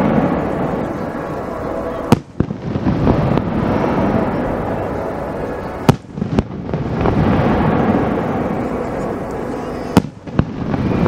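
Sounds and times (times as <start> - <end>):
low fireworks rumble: 0.0 - 11.0.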